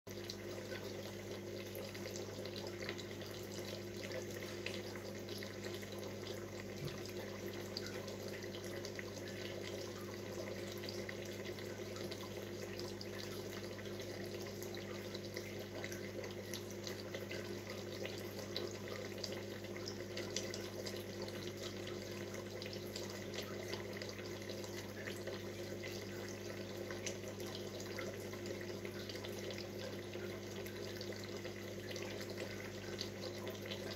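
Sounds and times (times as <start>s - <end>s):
aquarium filter bubbling water: 0.1s - 33.9s.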